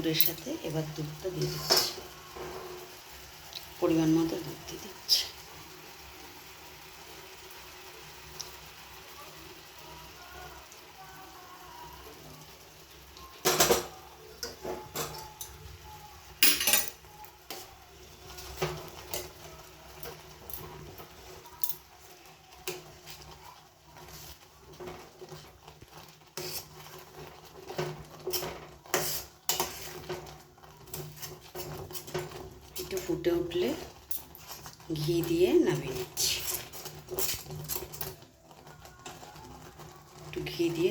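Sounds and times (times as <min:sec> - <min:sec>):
spoon stirring and scraping a pan: 0:00.0 - 0:40.9.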